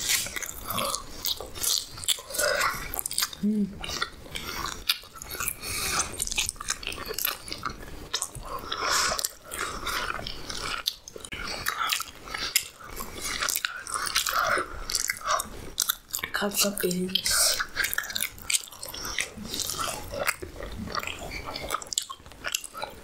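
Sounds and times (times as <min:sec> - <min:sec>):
mouth clicks and smacks: 0:00.0 - 0:23.0
person chewing food: 0:00.0 - 0:23.0.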